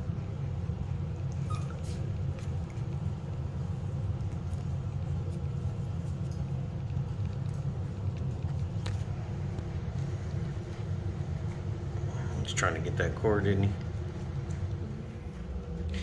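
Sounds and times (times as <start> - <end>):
electric fan humming: 0.0 - 16.0.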